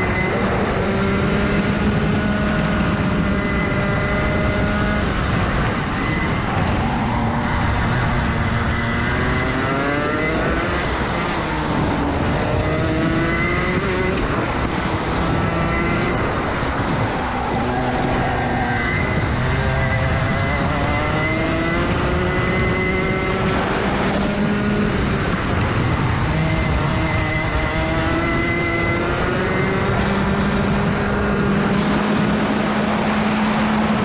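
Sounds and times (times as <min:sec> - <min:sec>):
kart engine revving: 0:00.0 - 0:34.0.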